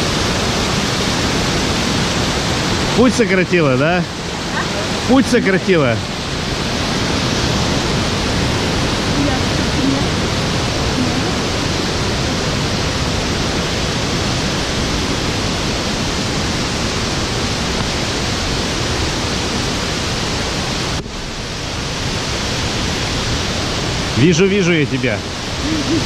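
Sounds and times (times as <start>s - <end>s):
waterfall cascading over rocks: 0.0s - 26.0s.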